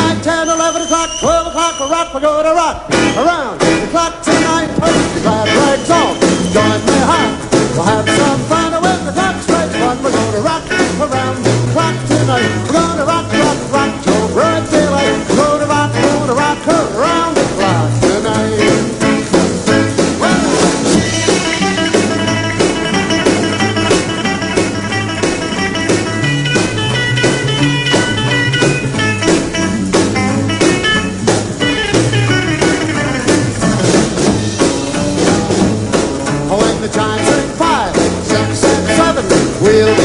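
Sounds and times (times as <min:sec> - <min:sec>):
lead instrumental solo: 0:00.0 - 0:39.9
drum beat: 0:00.0 - 0:40.0
rock band instrumental: 0:00.0 - 0:40.0.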